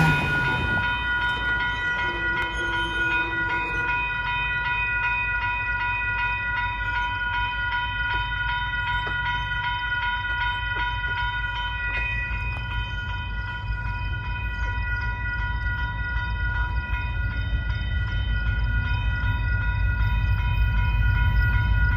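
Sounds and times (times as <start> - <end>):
crossing warning bell ringing: 0.0 - 21.9.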